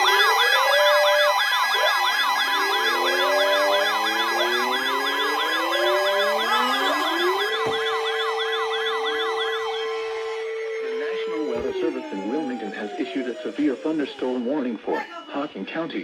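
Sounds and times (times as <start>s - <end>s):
fast yelping siren: 0.0s - 15.4s
rising siren wails: 0.0s - 15.4s
steady low siren tone: 0.0s - 15.6s
steady high siren tones: 0.0s - 15.9s.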